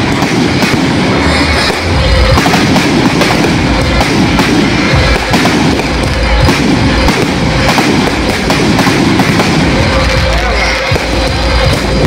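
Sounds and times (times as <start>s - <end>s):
fireworks crackling and banging: 0.0s - 12.0s
low rumble: 0.0s - 12.0s.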